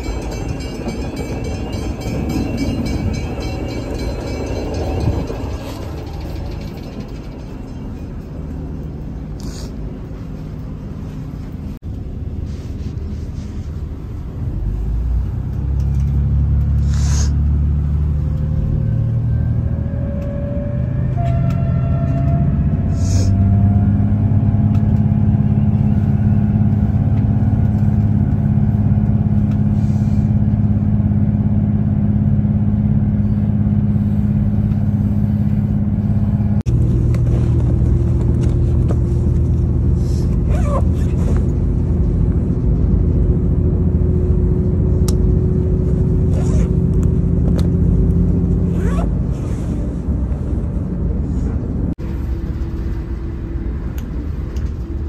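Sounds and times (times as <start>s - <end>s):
train rumble and whine: 0.0s - 55.0s.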